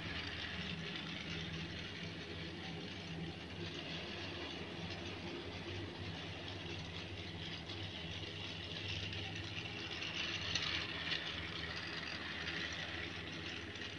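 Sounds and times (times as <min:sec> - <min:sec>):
toy train motor whirring: 0:00.0 - 0:13.9.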